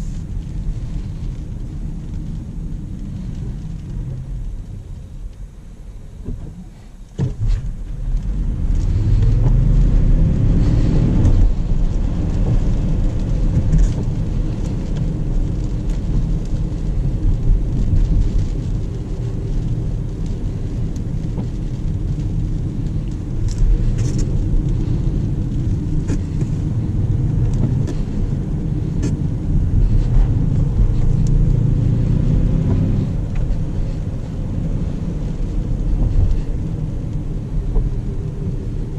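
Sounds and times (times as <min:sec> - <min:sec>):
tyre and road rumble: 0:00.0 - 0:38.9.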